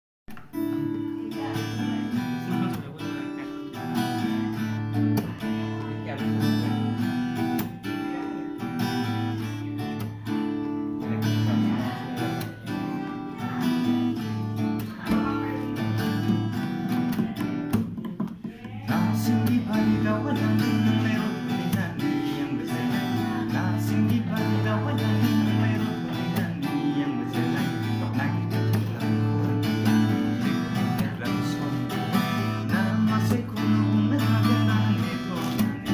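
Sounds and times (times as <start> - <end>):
acoustic guitar strumming chords: 0.3 - 35.9
man singing: 0.3 - 35.9.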